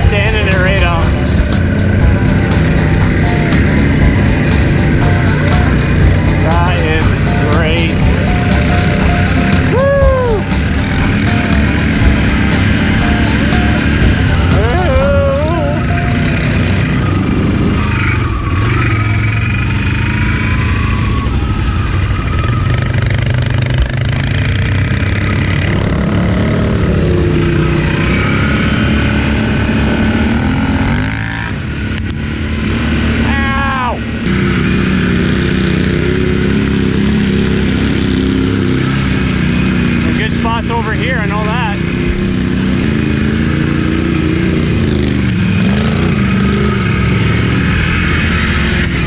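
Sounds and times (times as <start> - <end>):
atv engine running under load: 0.0 - 49.0.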